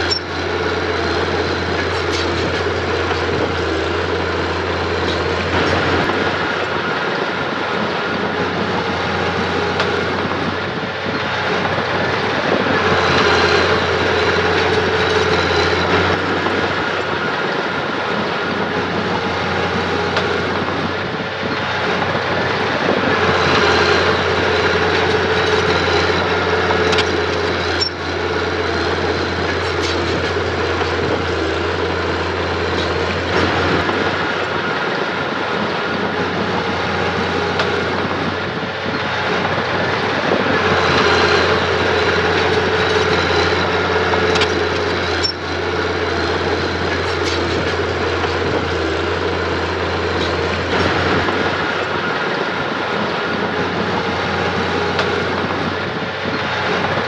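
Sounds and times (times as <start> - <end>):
bulldozer diesel engine running: 0.0 - 57.0
mechanical whine: 0.0 - 57.0.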